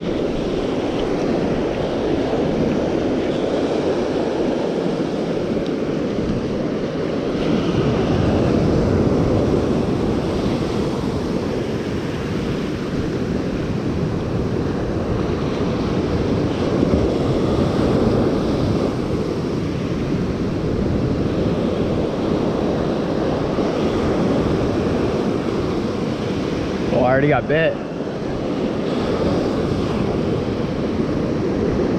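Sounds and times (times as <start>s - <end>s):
ocean surf washing onto beach: 0.0s - 31.9s
wind buffeting the microphone: 0.0s - 31.9s.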